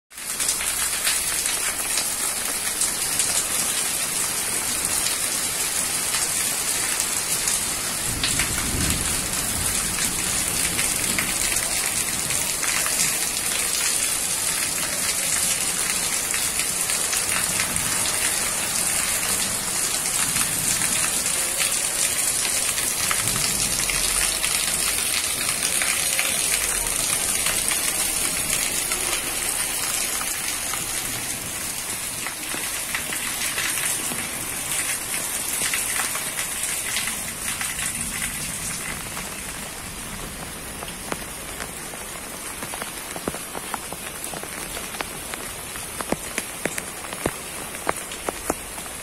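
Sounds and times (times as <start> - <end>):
heavy rain pouring: 0.1 - 49.0.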